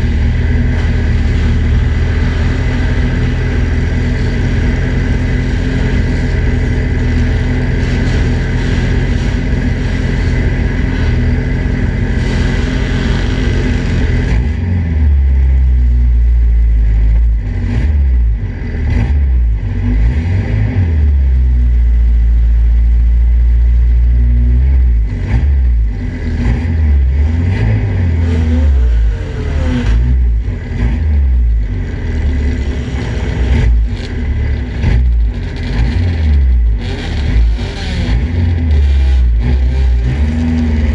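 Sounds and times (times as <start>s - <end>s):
race car engine revving: 0.0s - 22.8s, 23.6s - 40.9s.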